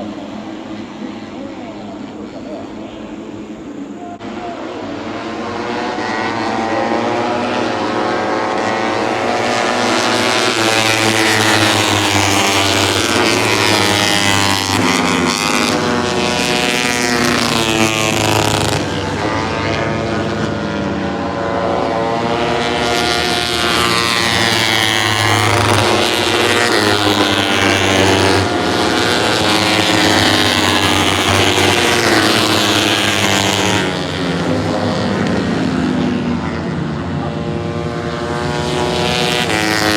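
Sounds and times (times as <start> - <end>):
race bike engines revving past: 0.0 - 39.9.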